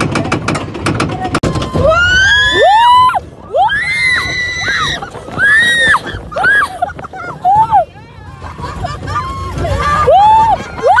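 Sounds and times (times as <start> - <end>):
roller coaster riders screaming: 1.4 - 11.0.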